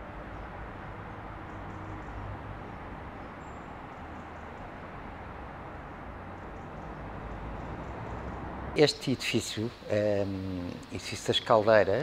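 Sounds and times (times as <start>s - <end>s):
distant traffic hum: 0.0s - 12.0s.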